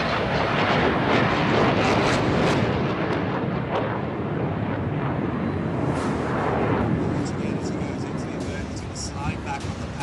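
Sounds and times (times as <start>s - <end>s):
jet engine rumble with crackles: 0.0s - 10.0s.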